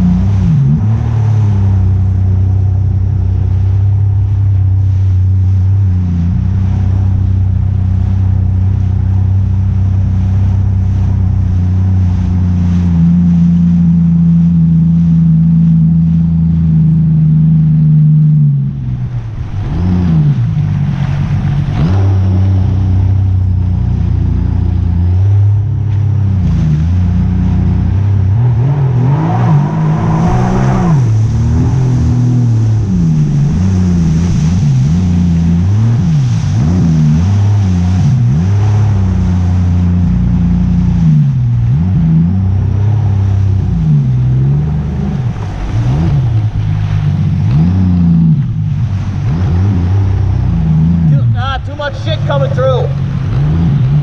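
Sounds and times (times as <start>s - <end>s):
motor engine revving: 6.2s - 54.0s.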